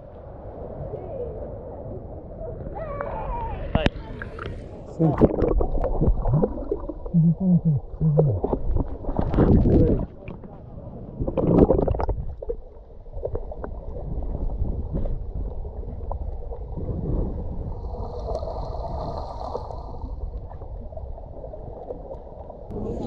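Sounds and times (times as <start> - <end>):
underwater rumble of moving water: 0.0 - 23.0.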